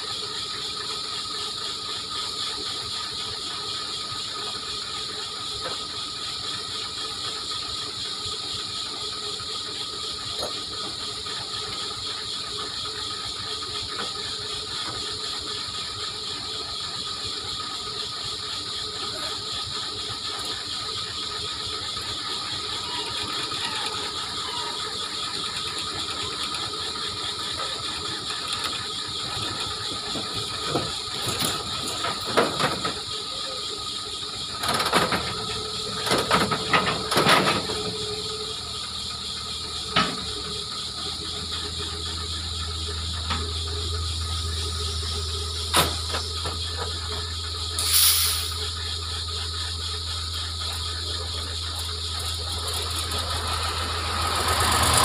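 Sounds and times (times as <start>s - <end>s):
excavator engine and hydraulics: 0.0s - 55.0s
low steady engine drone: 0.0s - 55.0s.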